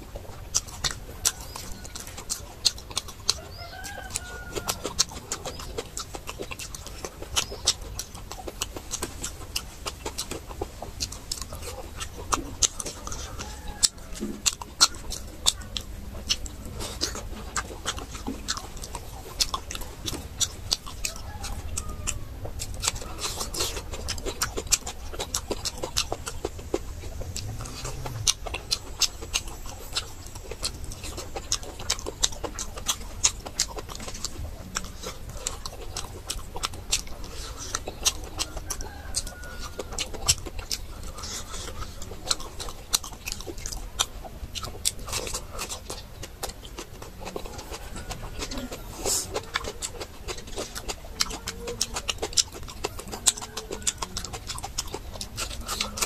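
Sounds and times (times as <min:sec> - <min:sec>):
lip smacking: 0:00.0 - 0:56.0
wet chewing: 0:00.0 - 0:56.0.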